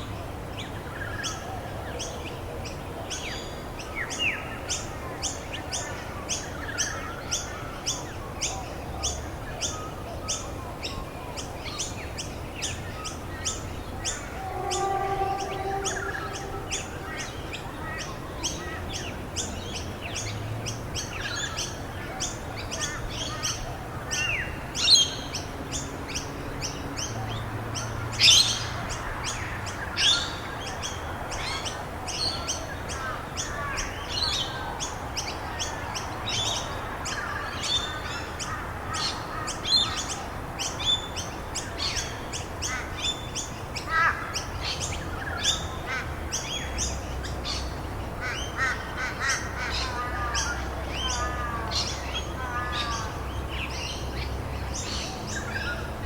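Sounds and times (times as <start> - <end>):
songbirds chirping and calling: 0.0 - 56.0.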